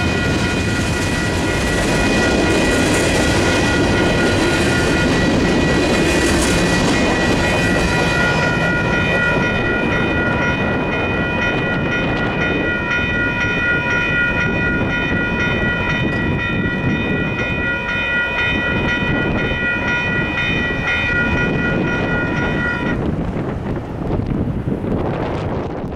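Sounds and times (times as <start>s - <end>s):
crossing warning bells ringing: 0.0s - 25.8s
train wheels on rails: 0.0s - 25.9s.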